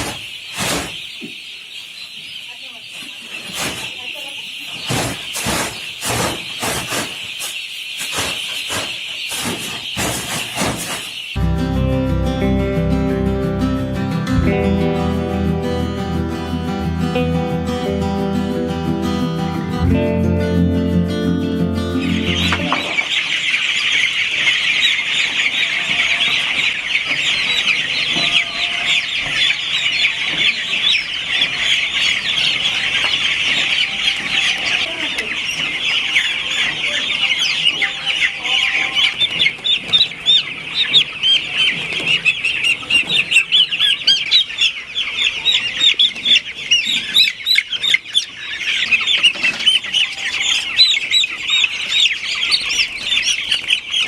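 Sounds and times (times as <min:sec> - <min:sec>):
chickens chirping: 0:00.0 - 0:54.0.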